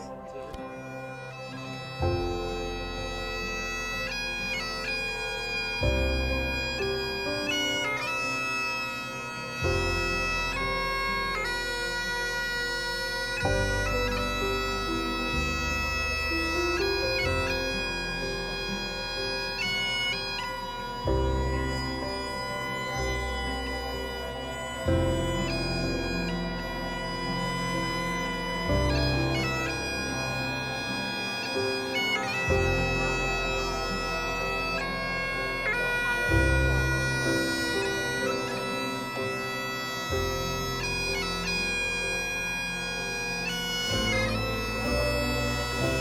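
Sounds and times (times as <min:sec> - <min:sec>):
bagpipes playing: 0:00.0 - 0:46.0.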